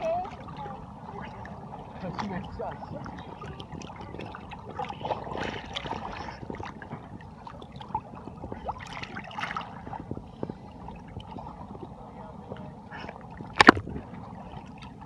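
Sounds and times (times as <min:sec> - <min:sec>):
small water clicks and splashes: 0:00.0 - 0:11.9, 0:12.5 - 0:15.0
sea water sloshing and gurgling: 0:00.0 - 0:15.0.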